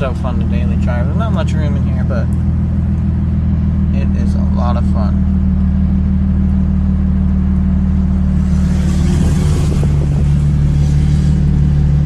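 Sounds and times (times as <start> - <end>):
car engine droning from inside: 0.0 - 12.0.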